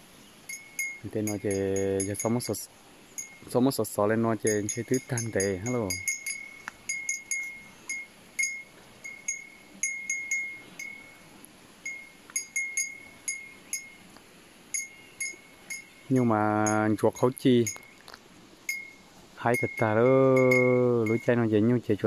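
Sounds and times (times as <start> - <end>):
cowbell clinking: 0.5 - 14.1, 14.7 - 18.0, 18.7 - 21.8.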